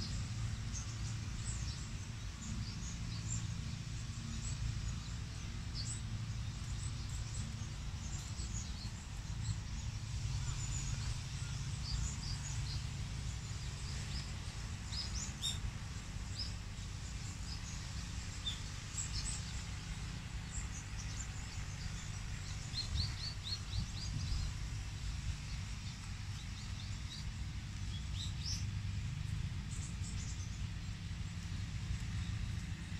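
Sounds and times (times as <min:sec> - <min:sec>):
low outdoor rumble: 0:00.0 - 0:32.9
small birds chirping: 0:00.0 - 0:32.9.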